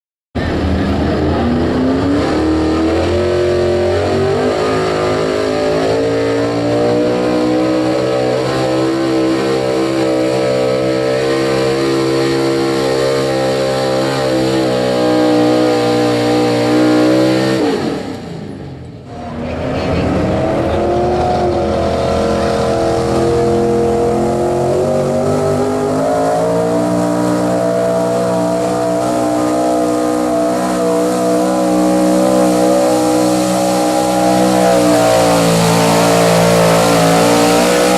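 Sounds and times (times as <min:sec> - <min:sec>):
truck engine revving under load: 0:00.4 - 0:37.9.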